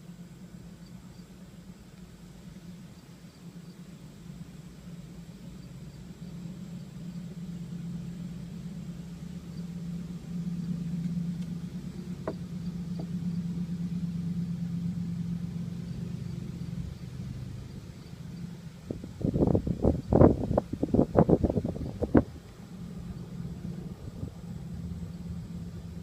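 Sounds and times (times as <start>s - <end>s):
motor humming: 0.3s - 26.0s.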